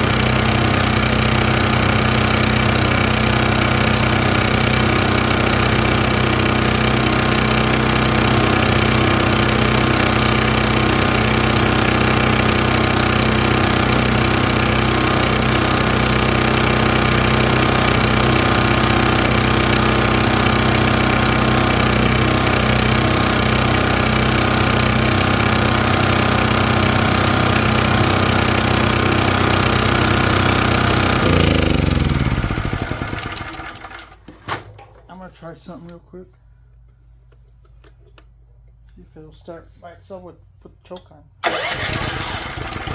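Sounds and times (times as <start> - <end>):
generator engine running: 0.0 - 34.2, 41.4 - 42.9.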